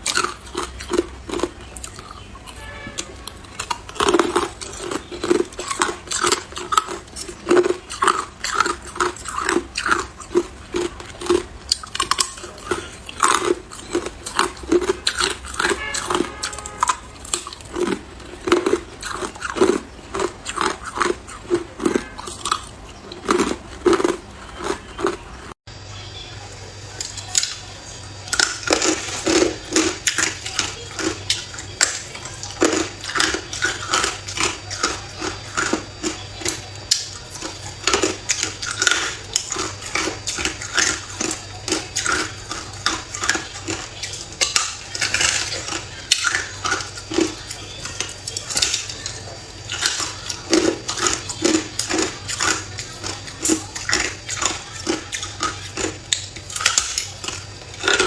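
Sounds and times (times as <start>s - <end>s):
ice chunks clinking against a cup: 0.0s - 25.2s, 28.3s - 58.0s
faint steady hum: 0.0s - 58.0s.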